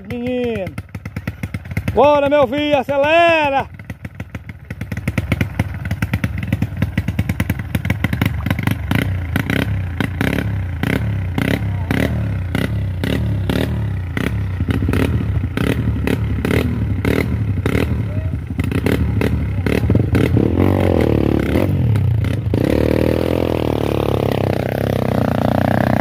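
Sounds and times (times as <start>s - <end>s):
motorcycle engine revving hard: 4.8s - 26.0s.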